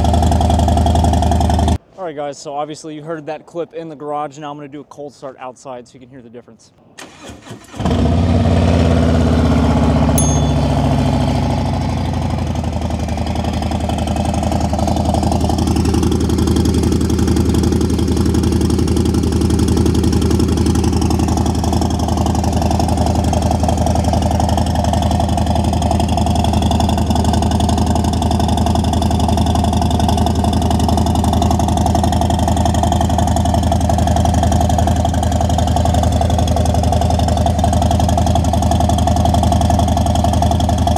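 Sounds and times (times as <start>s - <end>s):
motorcycle engine idling: 0.0s - 1.8s, 9.3s - 40.9s.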